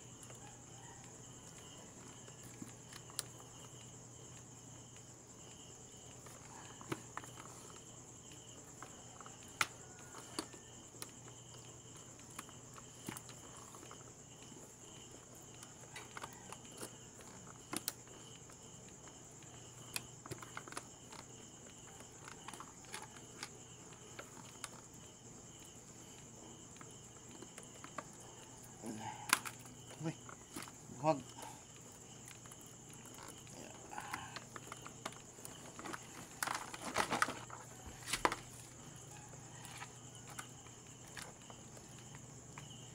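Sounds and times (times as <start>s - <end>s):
crickets chirring: 0.0s - 42.9s.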